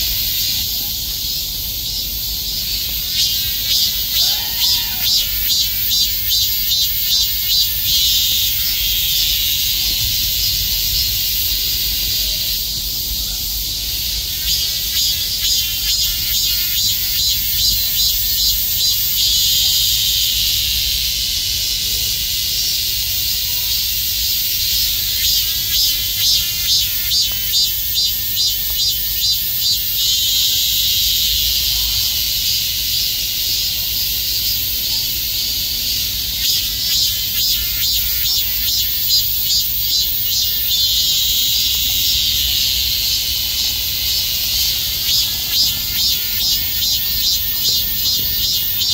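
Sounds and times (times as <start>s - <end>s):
cicadas chorus buzzing: 0.0s - 48.9s.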